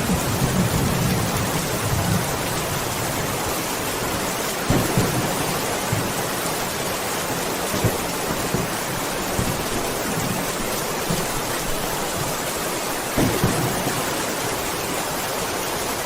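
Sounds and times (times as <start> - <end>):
thunder rumbling: 0.0 - 12.4, 13.0 - 15.2
rain hissing: 0.0 - 16.0.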